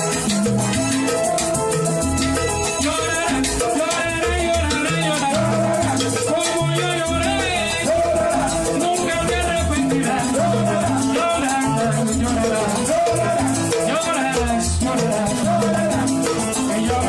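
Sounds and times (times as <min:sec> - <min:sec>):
bass notes: 0:00.0 - 0:17.0
hand percussion: 0:00.0 - 0:17.0
salsa band music: 0:00.0 - 0:17.0.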